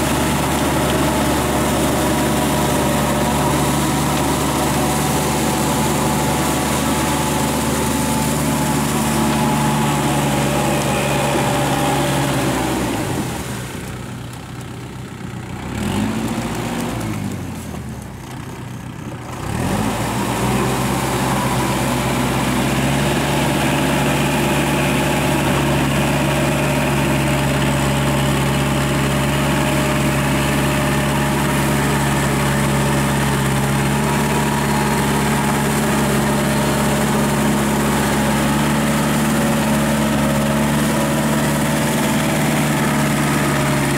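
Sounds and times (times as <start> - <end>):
tractor diesel engine under load: 0.0 - 43.9.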